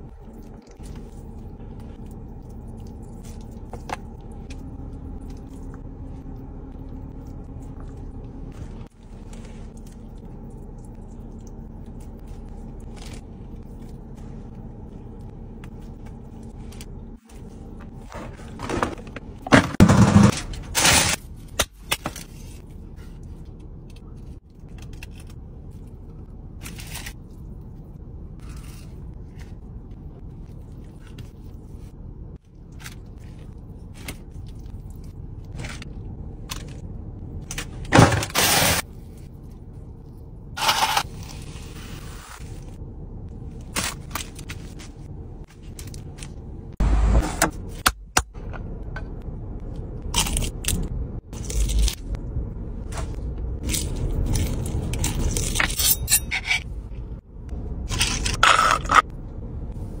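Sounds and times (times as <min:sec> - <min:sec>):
low steady hum: 0:00.0 - 1:00.0.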